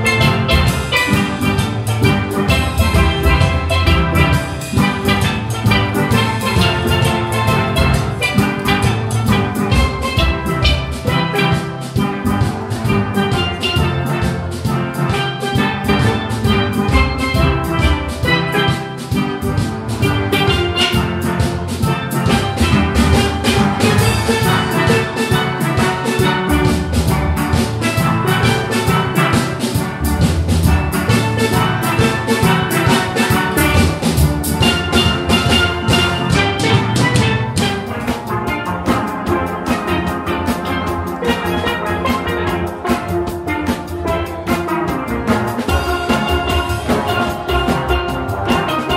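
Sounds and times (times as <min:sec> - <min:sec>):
steelband playing: 0:00.0 - 0:48.9.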